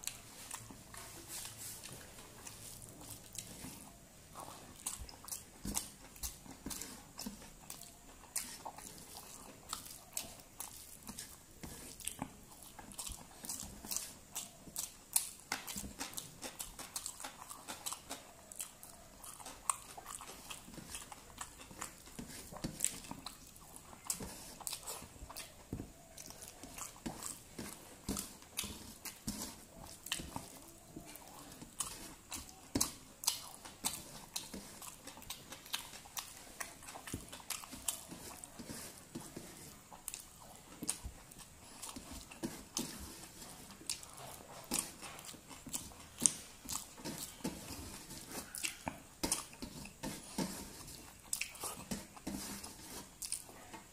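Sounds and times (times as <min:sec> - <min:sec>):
chewing with mouth clicks: 0:00.0 - 0:53.9
fingers squishing rice on plate: 0:00.0 - 0:53.9.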